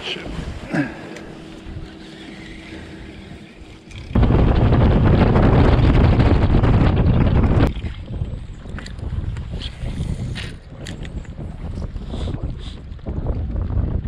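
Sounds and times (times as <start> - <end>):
wind buffeting microphone: 2.6 - 14.0.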